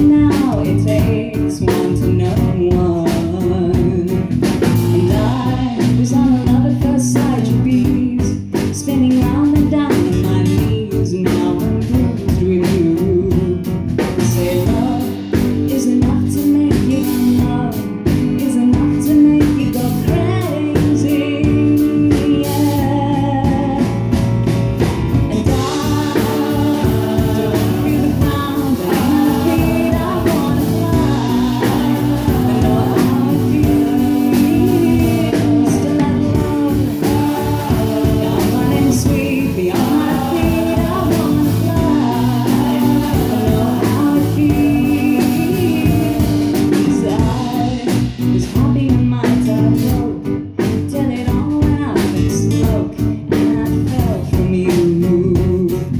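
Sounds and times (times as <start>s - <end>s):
woman singing: 0.0s - 24.2s, 25.3s - 55.9s
bass guitar: 0.0s - 55.9s.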